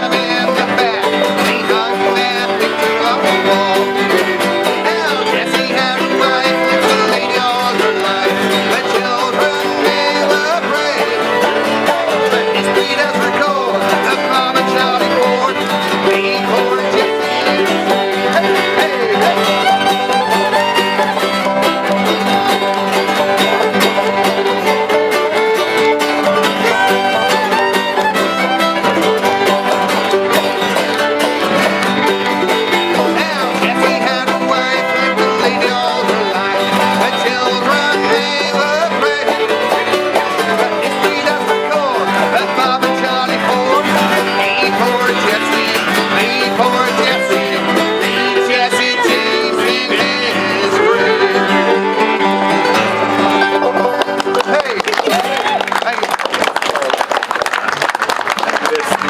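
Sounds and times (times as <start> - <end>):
bluegrass fiddle and banjo tune: 0.0 - 59.0.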